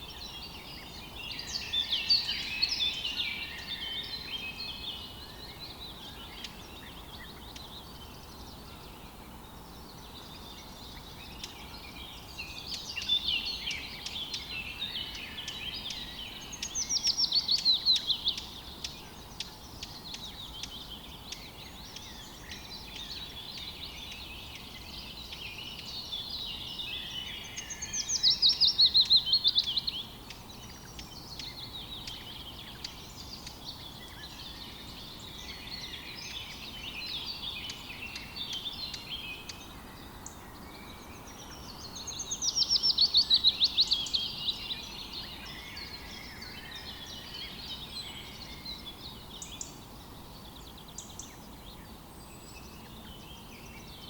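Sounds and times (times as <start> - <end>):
faint hiss: 0.0 - 54.0
loud trilled bird songs: 0.0 - 54.0
small birds chirping: 0.0 - 54.0.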